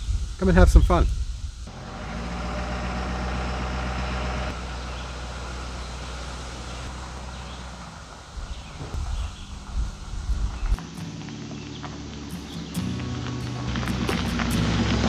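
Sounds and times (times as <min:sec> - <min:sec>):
pickup truck engine running: 0:01.7 - 0:10.8, 0:11.4 - 0:15.0.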